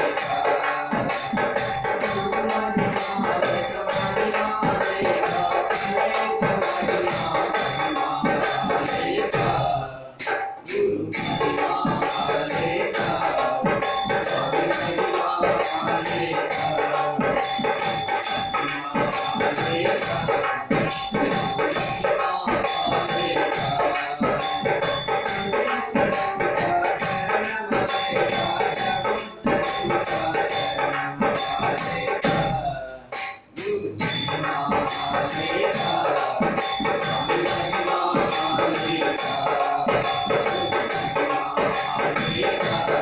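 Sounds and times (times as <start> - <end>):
barrel drum: 0.0 - 43.0
men singing devotional song: 0.0 - 43.0
tambourine: 0.0 - 43.0.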